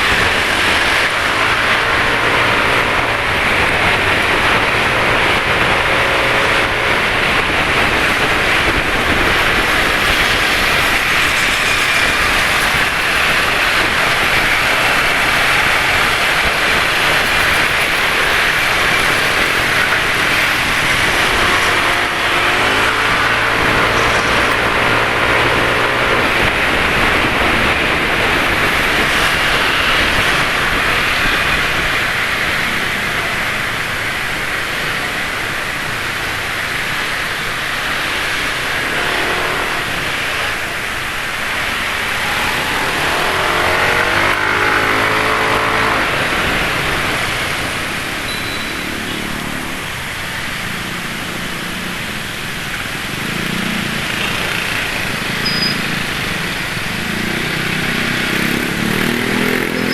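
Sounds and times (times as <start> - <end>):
motorbikes passing: 0.0 - 59.9
wind and road noise: 0.0 - 59.9.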